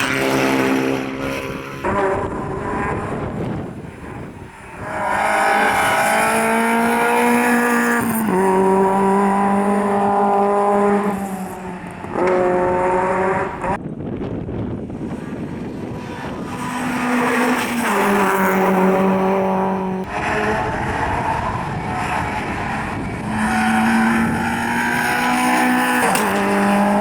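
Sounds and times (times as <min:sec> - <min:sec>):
rally car engine at full throttle: 0:00.0 - 0:27.0.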